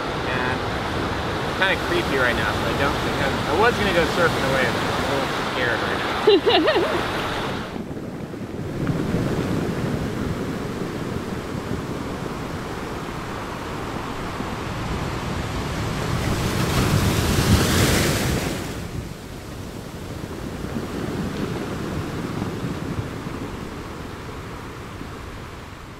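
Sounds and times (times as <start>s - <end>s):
ocean surf breaking: 0.0s - 25.9s
wind buffeting microphone: 0.0s - 25.9s.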